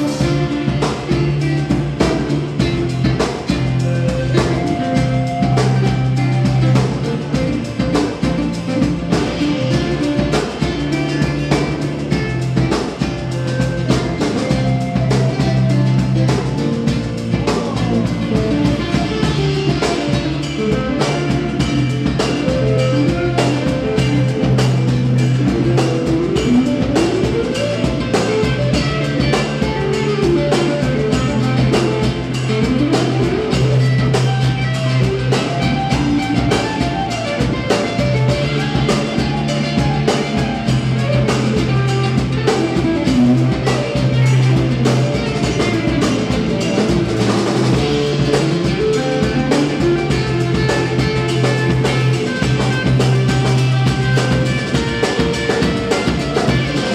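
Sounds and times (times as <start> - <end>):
drum kit: 0.0 - 56.9
electric bass line: 0.0 - 56.9.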